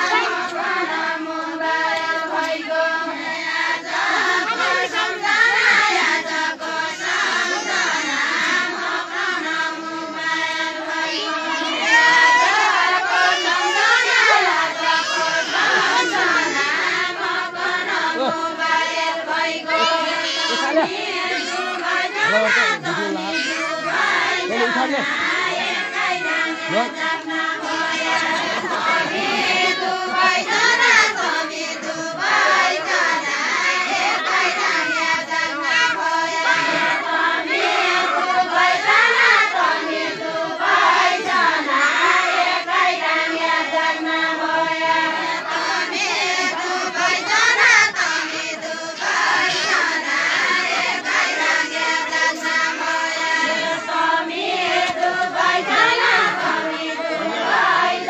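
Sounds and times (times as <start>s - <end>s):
women singing folk song together: 0.0s - 58.0s.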